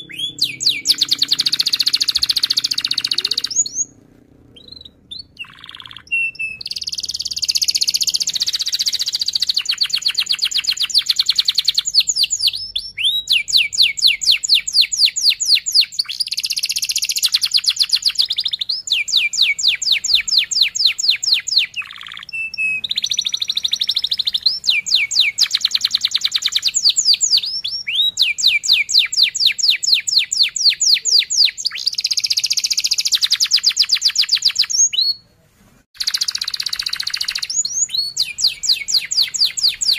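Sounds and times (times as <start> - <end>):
canary singing trills: 0.0 - 35.2, 36.0 - 39.9.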